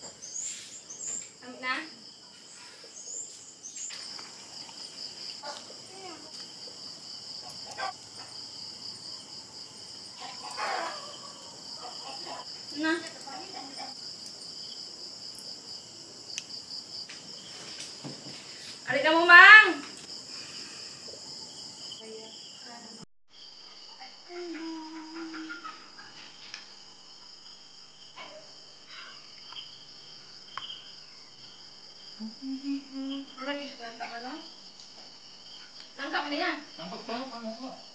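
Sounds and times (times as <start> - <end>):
crickets trilling: 0.0 - 37.9.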